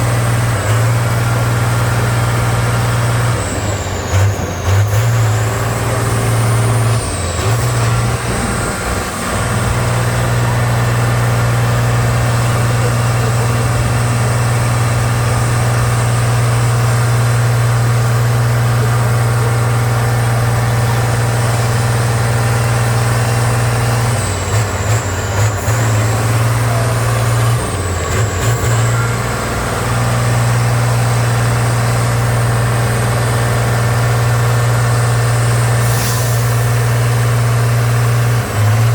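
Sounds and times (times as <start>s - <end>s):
diesel truck engine running hard: 0.0s - 38.9s.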